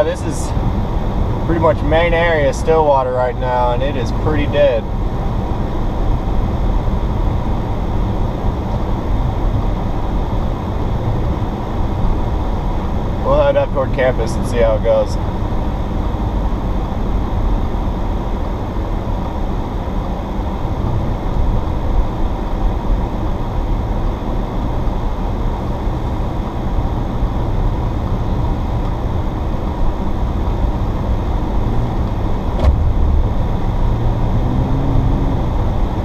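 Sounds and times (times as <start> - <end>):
car engine drone: 0.0 - 36.0.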